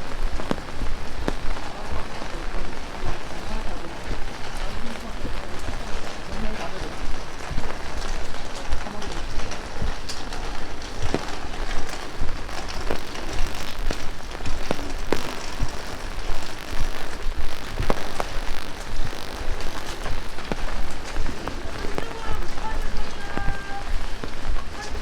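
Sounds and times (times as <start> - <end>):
heavy rain on street: 0.0 - 25.0.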